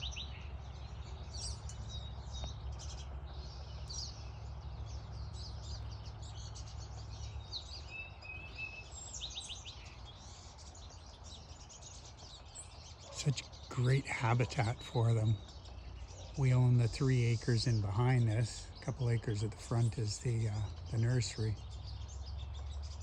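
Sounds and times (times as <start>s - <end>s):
birds chirping and singing: 0.0s - 23.0s.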